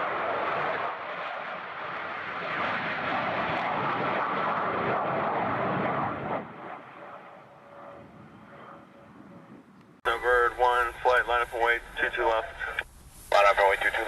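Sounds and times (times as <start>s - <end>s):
military jet taking off: 0.0s - 14.0s.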